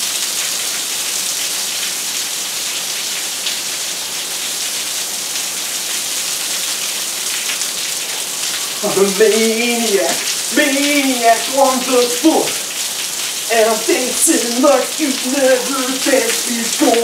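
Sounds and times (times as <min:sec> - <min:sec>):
heavy rain: 0:00.0 - 0:17.0
water pouring off gutters: 0:00.0 - 0:17.0.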